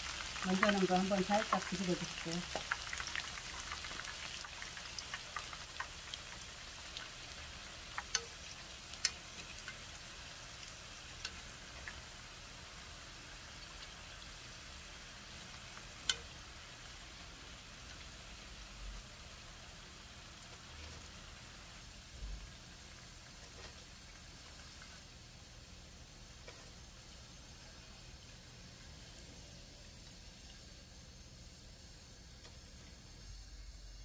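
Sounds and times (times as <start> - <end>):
oil sizzling while deep-frying: 0.0 - 34.0.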